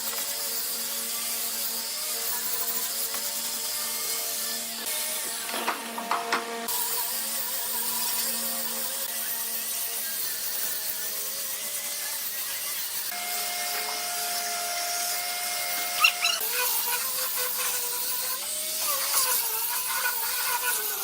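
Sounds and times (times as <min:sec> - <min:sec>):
electric power tool motor hum: 0:00.0 - 0:21.0.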